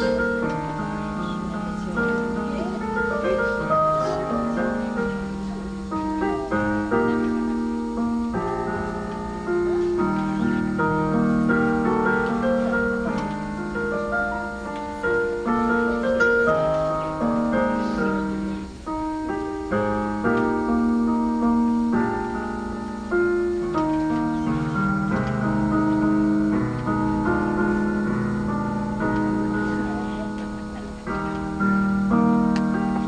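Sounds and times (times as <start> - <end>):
instrumental keyboard music: 0.0 - 33.0.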